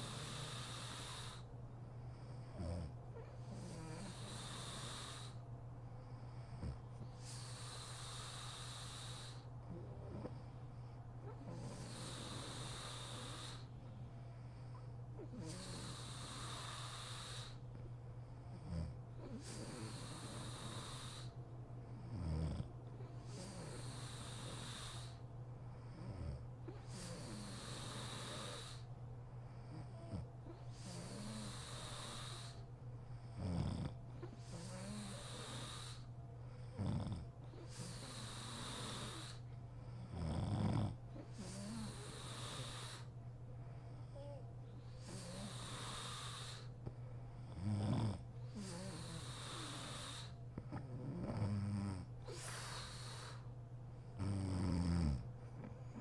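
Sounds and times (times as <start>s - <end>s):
woman snoring: 0.0s - 1.5s, 2.5s - 5.4s, 6.6s - 10.4s, 11.2s - 13.8s, 15.2s - 17.7s, 18.6s - 21.4s, 22.0s - 25.2s, 26.0s - 28.9s, 29.7s - 32.6s, 33.3s - 39.4s, 40.0s - 43.2s, 44.0s - 46.8s, 47.5s - 53.5s, 54.2s - 56.0s.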